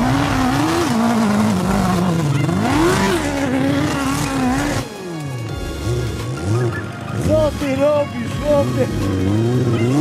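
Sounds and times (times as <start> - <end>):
buggy engine revving hard: 0.0 - 10.0.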